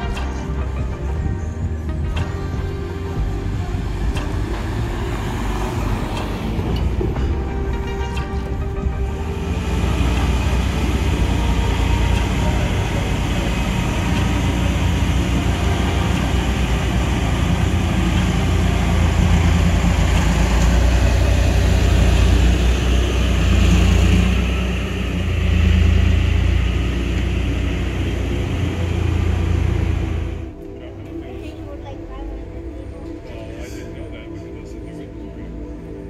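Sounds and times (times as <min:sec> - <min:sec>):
tourist train engine rumble: 0:00.0 - 0:36.0.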